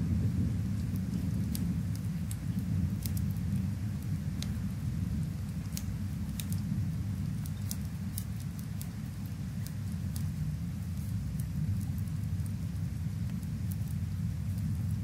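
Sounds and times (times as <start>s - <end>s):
rain rumbling: 0.0s - 15.0s
wood fire crackling: 0.0s - 15.0s.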